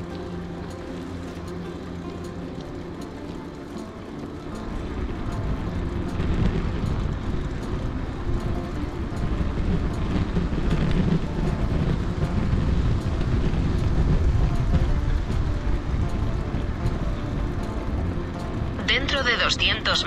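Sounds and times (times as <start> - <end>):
tyre noise on asphalt: 0.0 - 18.8
wind buffeting microphone: 0.0 - 20.0.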